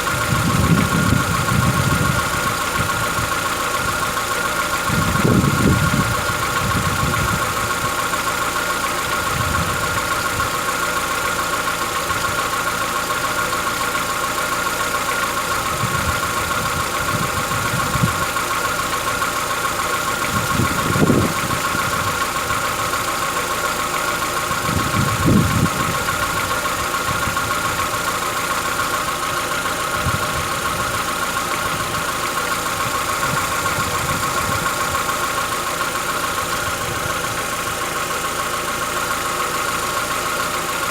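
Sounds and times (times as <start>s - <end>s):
car engine idling with clatter: 0.0s - 40.9s.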